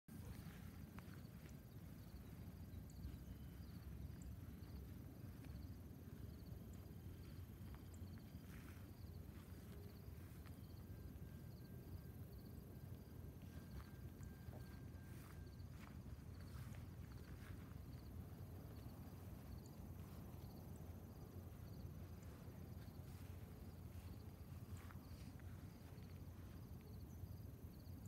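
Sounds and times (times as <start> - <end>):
insects chirping: 0.1 - 28.0
thin steady tone: 0.1 - 28.0.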